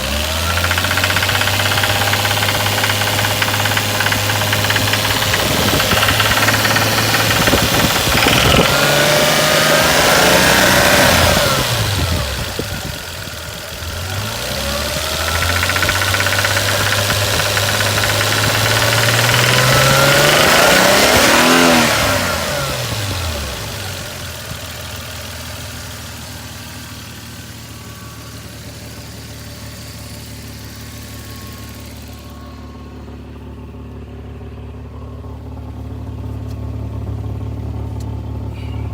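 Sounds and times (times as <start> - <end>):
car engine revving and idling: 0.0 - 32.4.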